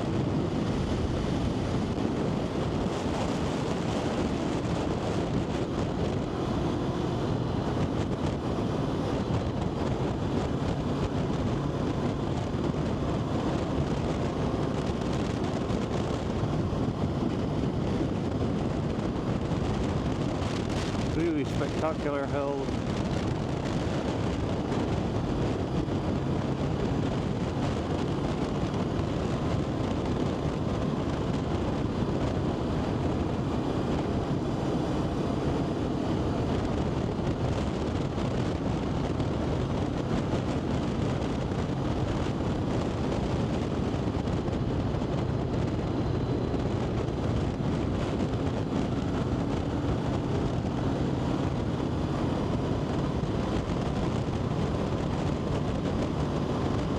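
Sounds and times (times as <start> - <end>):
vehicle engine running: 0.0 - 56.9
wind rush on microphone: 0.0 - 56.9.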